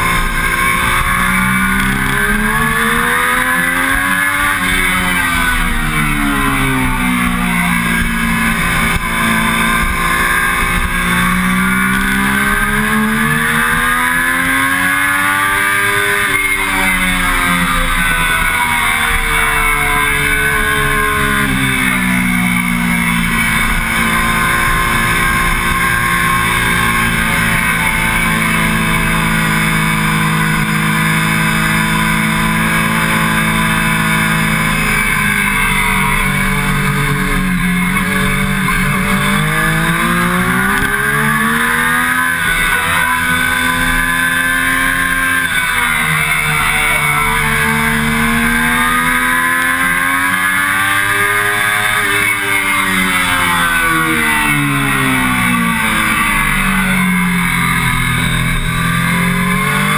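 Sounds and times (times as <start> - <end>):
motorcycle engine running hard: 0.0 - 59.9.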